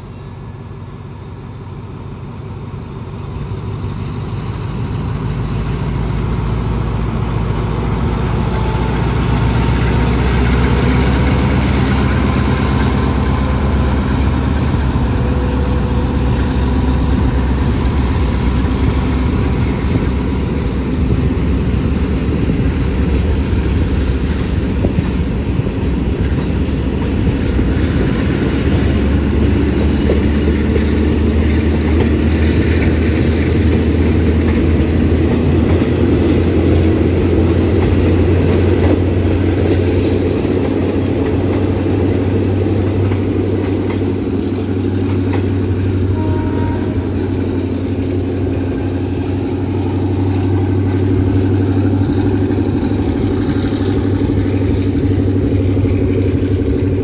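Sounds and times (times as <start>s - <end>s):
diesel locomotive rumble: 0.0s - 57.0s
train carriages rolling past: 0.0s - 57.0s.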